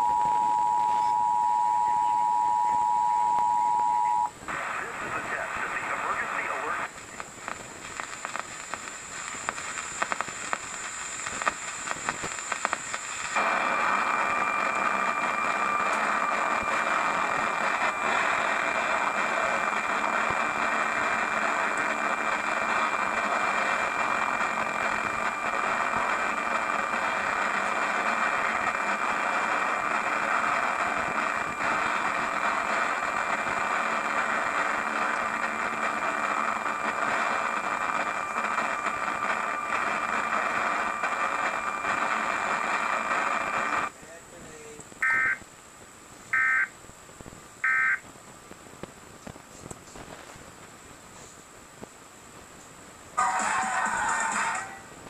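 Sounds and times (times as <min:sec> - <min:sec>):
faint high whine: 0:00.0 - 0:48.1
broadcast static crackling: 0:00.0 - 0:55.0.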